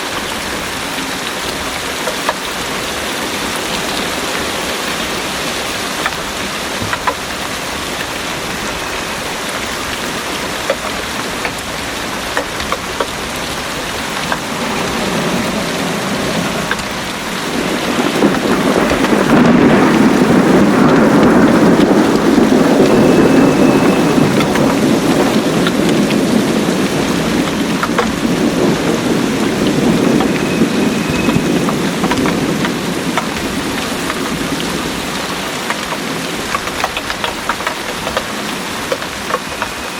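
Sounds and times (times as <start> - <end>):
heavy rain pouring: 0.0 - 39.9
rumble of thunder: 3.1 - 37.3.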